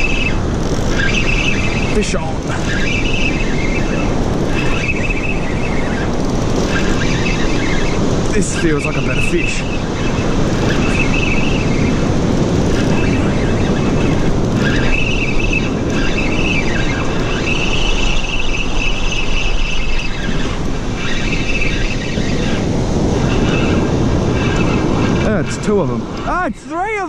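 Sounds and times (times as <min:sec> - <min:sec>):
breaking surf rushing: 0:00.0 - 0:27.0
fishing reel whining: 0:00.0 - 0:27.0.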